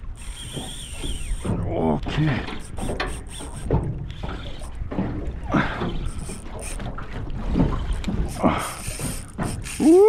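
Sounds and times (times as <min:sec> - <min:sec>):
water lapping against boat hull: 0:00.0 - 0:10.0
water splashes: 0:00.0 - 0:10.0.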